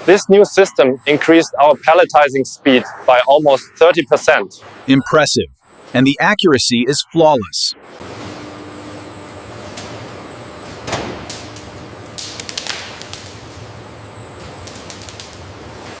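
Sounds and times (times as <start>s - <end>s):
factory machinery running: 0.0s - 16.0s.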